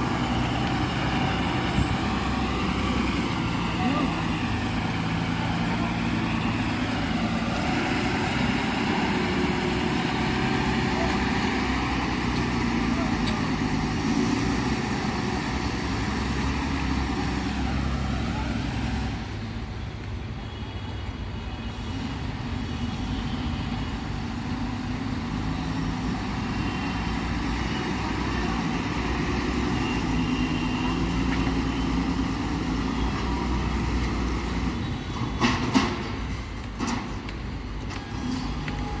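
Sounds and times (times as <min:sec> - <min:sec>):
heavy diesel machinery running: 0:00.0 - 0:19.6, 0:23.8 - 0:39.0.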